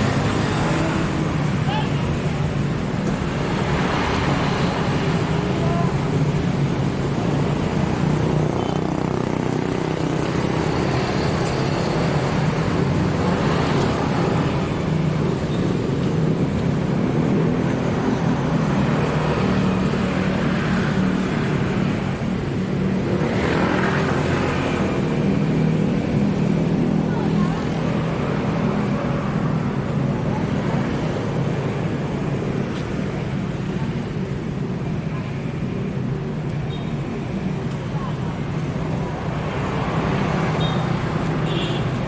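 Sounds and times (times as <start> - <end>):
hum of vehicle engines: 0.0 - 42.0
vehicles passing: 0.0 - 42.0.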